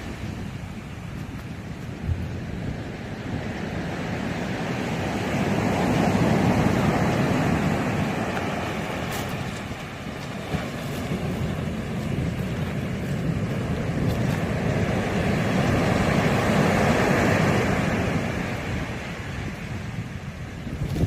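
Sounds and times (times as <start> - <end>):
sea surf breaking on beach: 0.0 - 21.0.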